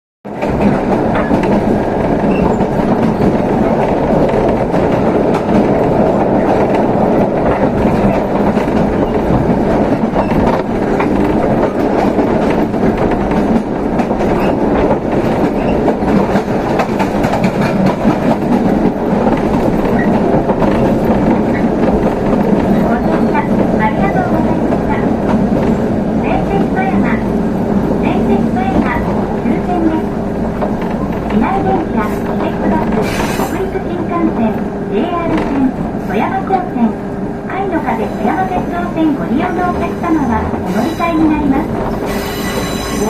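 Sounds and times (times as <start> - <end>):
train wheels rumbling on rail: 0.3 - 43.0.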